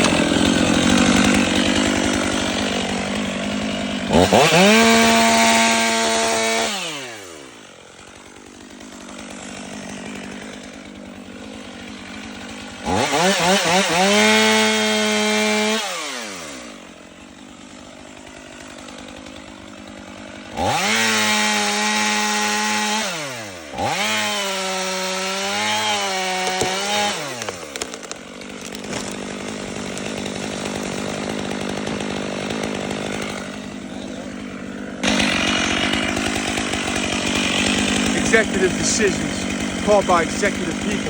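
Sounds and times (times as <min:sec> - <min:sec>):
chainsaw cutting wood: 0:00.0 - 0:41.0.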